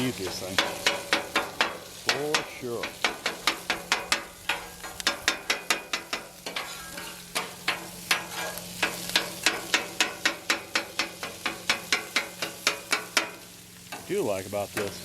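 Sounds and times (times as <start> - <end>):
meat sizzling: 0.0 - 15.0
metal spatulas clacking on griddle: 0.3 - 14.1.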